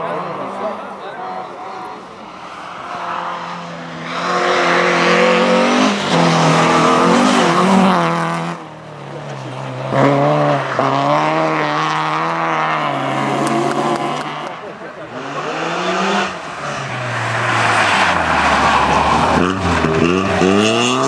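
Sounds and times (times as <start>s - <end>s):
rally car engine passing: 0.0s - 21.0s
rally car running hard: 0.0s - 21.0s.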